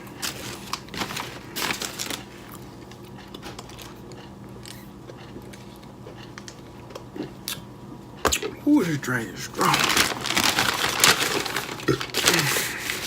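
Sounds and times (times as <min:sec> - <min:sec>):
low steady hum: 0:00.0 - 0:13.0
person chewing crisp fries: 0:00.0 - 0:13.0.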